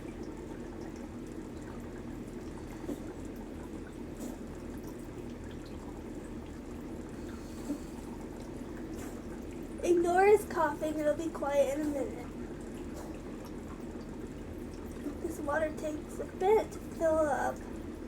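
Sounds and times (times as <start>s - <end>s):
water running into reservoir: 0.0s - 18.0s.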